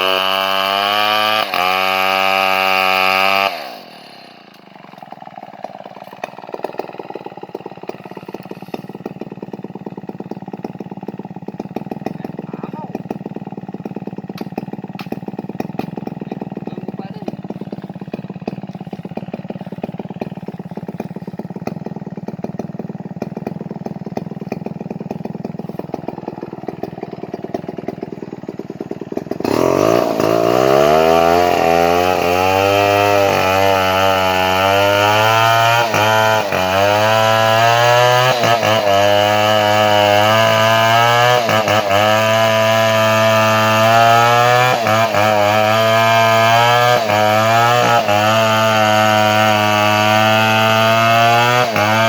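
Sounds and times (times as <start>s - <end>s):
chainsaw engine idling and revving: 0.0s - 52.0s.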